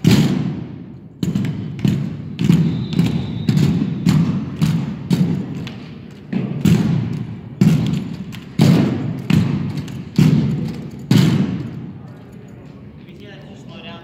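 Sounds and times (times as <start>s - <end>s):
rifles knocking in unison: 0.0s - 11.9s.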